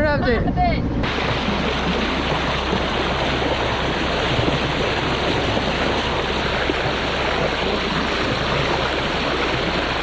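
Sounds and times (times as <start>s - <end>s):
wind and water rushing: 0.0s - 10.0s
boat engine drone: 0.8s - 10.0s.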